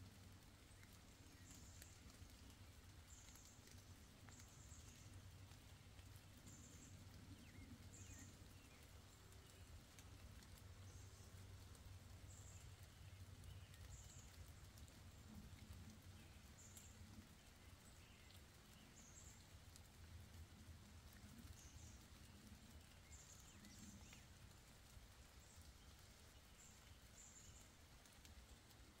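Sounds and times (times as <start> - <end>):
faint ticks: 0.0 - 29.0
small birds chirping: 0.0 - 29.0.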